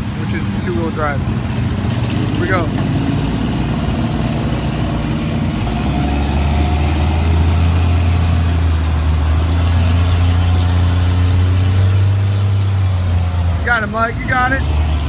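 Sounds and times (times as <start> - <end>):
truck engine and winch drone: 0.0 - 15.0.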